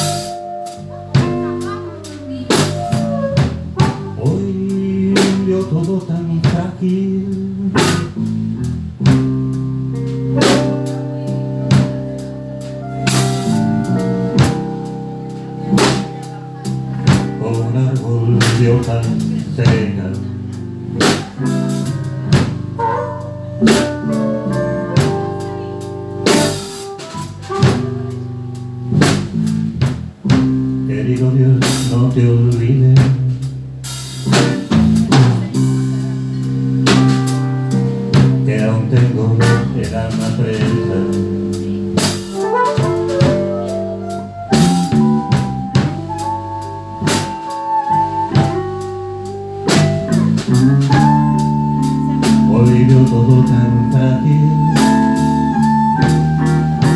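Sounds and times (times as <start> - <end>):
drum kit hits: 0.0 - 7.0, 7.7 - 32.2, 32.8 - 56.9
guitar bending melody notes: 0.0 - 31.5, 32.2 - 56.9
bass guitar: 0.0 - 56.9
blues band playing: 0.0 - 56.9.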